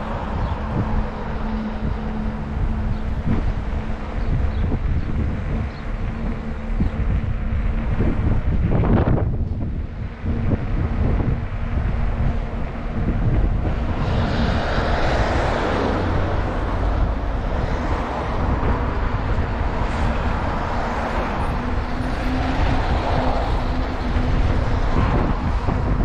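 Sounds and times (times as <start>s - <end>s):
traffic rushing: 0.0s - 26.0s
wind buffeting microphone: 0.0s - 26.0s.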